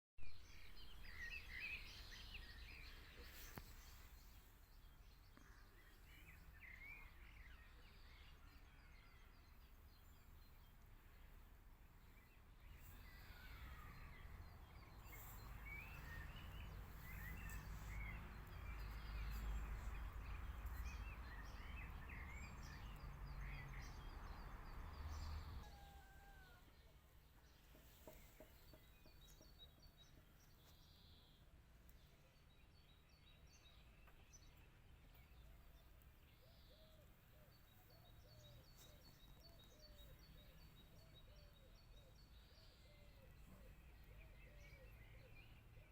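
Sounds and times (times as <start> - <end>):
small birds chirping: 0.2 - 45.9.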